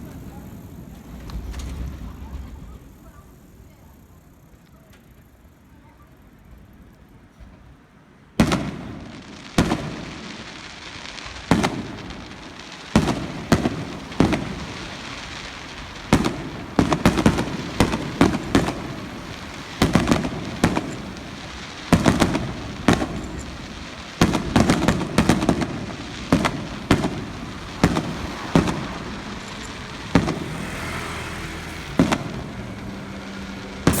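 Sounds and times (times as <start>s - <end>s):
fireworks booming: 0.0s - 3.4s, 8.4s - 34.0s.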